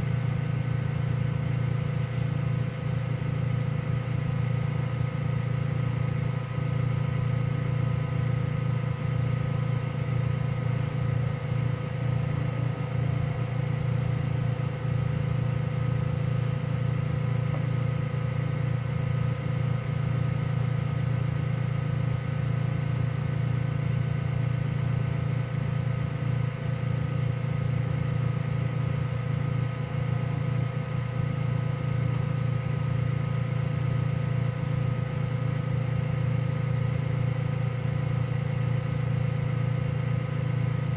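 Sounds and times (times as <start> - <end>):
cooling fans humming: 0.0 - 40.9.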